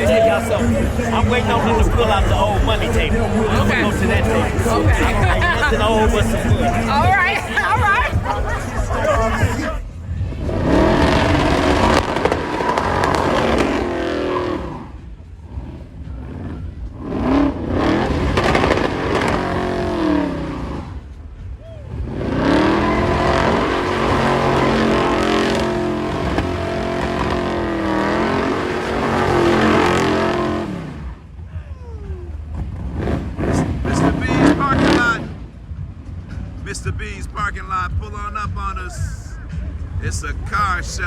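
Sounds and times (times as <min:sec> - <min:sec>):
car engine revving: 0:00.0 - 0:31.5, 0:32.3 - 0:38.6.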